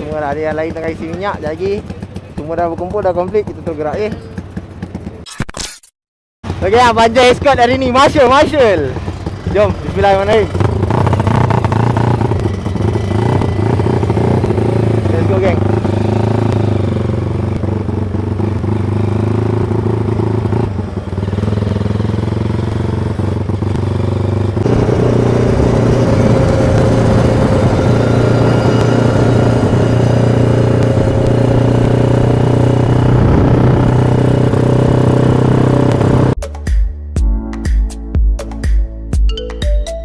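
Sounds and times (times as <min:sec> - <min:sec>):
two-stroke motorcycle engine: 0:00.0 - 0:05.2, 0:06.4 - 0:36.4.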